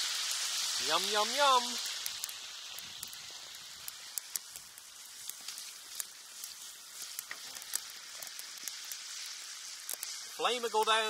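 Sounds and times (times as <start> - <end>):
burgers sizzling in a pan: 0.0 - 11.0.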